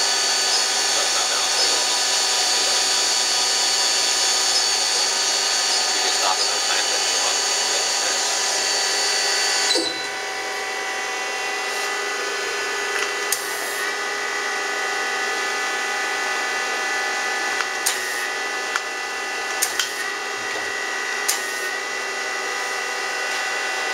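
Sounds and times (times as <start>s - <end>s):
machine whine: 0.0s - 23.9s.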